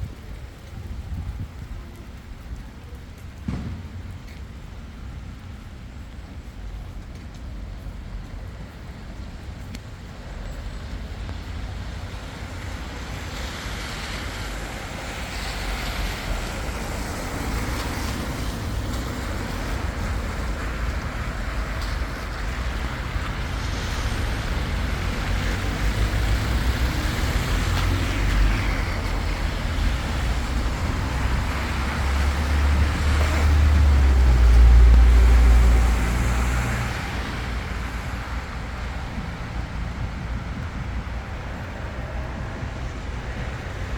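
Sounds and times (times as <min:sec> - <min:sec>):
steady rain hiss: 0:00.0 - 0:43.9
vehicle passing on wet street: 0:00.0 - 0:43.9.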